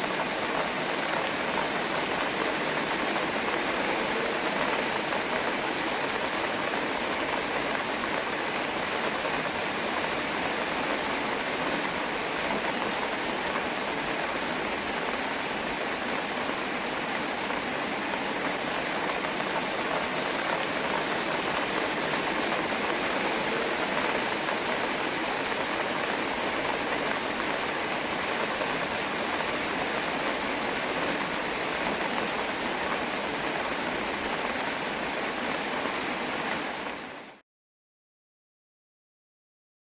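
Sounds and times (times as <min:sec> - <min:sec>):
steady rain falling: 0:00.0 - 0:37.4.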